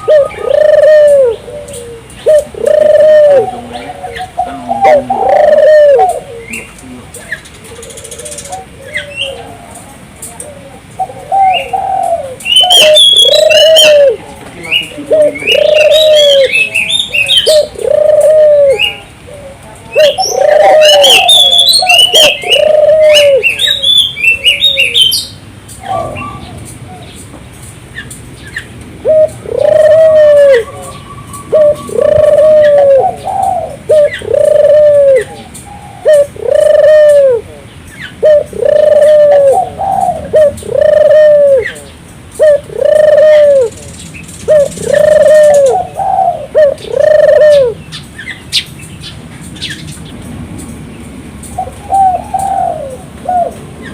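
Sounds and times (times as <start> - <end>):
dove cooing: 0.0 - 27.2, 29.0 - 48.1, 51.6 - 53.9.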